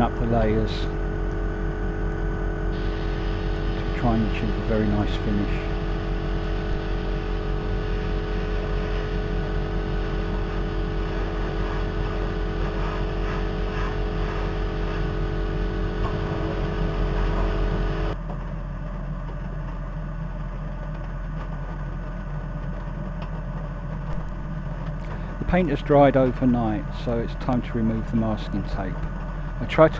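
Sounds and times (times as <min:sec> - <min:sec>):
extractor fans humming: 0:00.0 - 0:18.2, 0:22.5 - 0:29.9.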